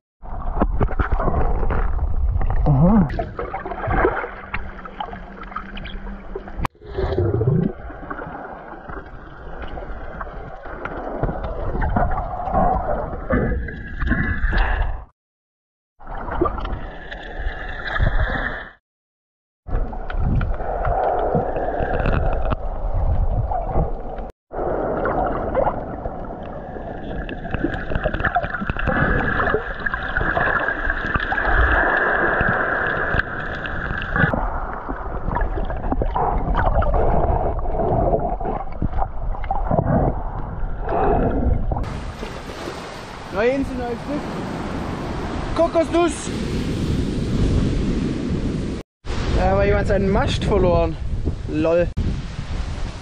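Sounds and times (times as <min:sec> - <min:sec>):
underwater water rushing and gurgling: 0:00.2 - 0:15.1, 0:16.0 - 0:18.8, 0:19.7 - 0:53.0.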